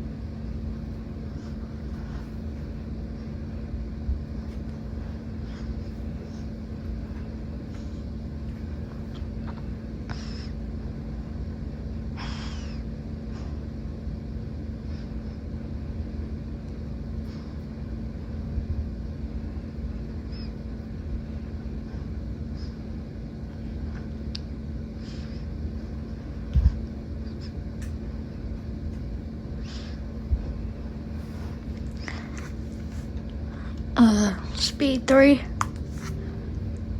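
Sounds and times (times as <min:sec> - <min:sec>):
ceiling fan motor hum: 0:00.0 - 0:36.9.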